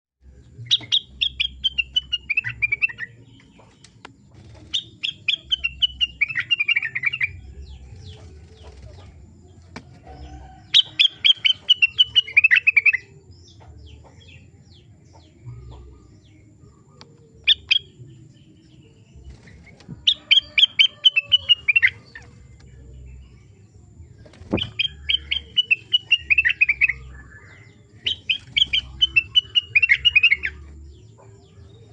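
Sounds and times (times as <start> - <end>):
songbird singing: 0.2 - 31.9.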